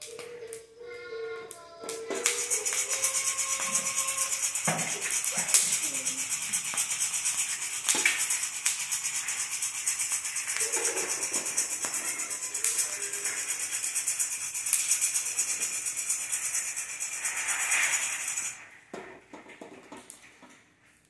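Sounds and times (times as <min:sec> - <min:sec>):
coffee beans rattling in saucepan: 0:02.0 - 0:20.4.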